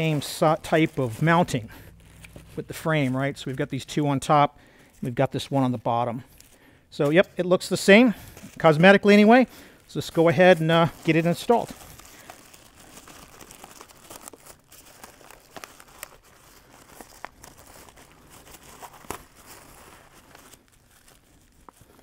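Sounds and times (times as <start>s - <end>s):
plastic bag crinkling: 0.0s - 5.2s, 8.2s - 22.0s.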